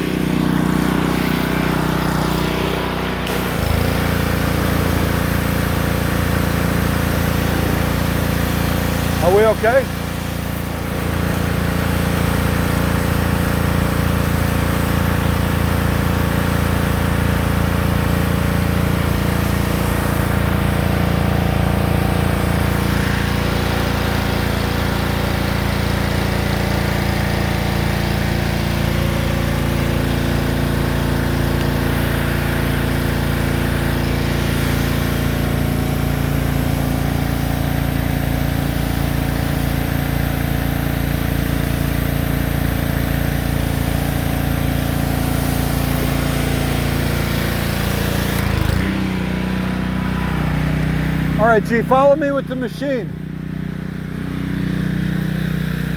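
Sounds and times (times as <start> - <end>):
pressure washer engine hum: 0.0 - 55.9.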